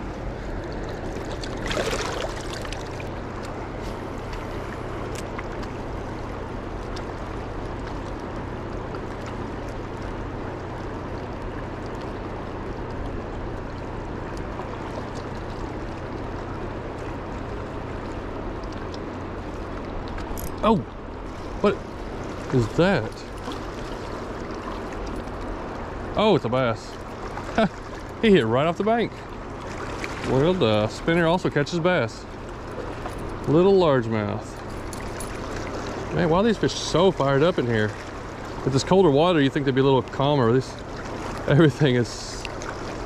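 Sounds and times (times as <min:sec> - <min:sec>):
river current rushing: 0:00.0 - 0:06.9, 0:13.7 - 0:43.0.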